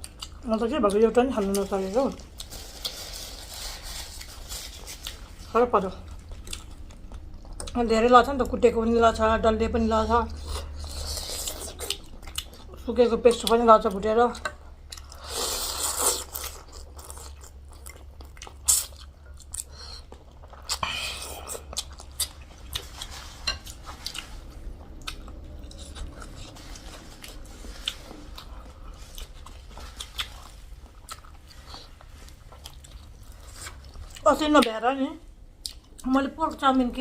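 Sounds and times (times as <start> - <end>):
chewing and crunching: 0.0 - 8.6, 10.2 - 34.8.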